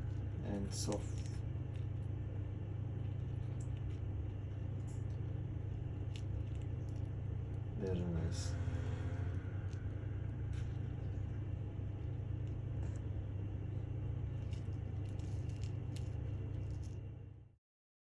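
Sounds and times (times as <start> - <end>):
steady low rumble: 0.0 - 17.5.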